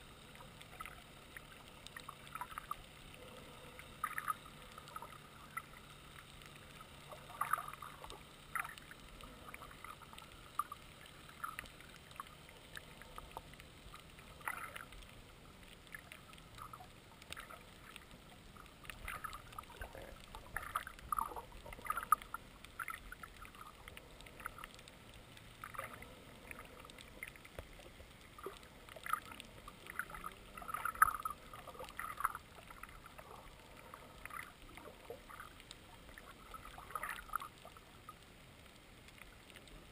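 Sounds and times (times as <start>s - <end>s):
crackles and clicks: 0.0s - 39.9s
muffled underwater hiss: 0.0s - 39.9s.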